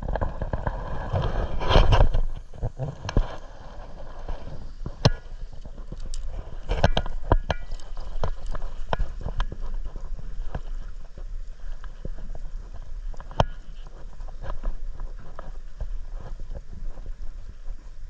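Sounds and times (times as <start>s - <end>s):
low steady boat rumble: 0.0s - 18.0s.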